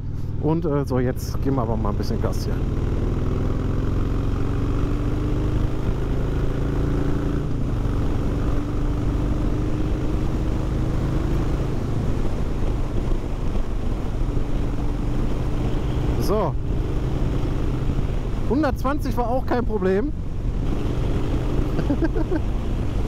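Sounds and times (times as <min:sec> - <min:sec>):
motorcycle engine accelerating: 0:00.0 - 0:23.0
wind and road noise: 0:00.0 - 0:23.0.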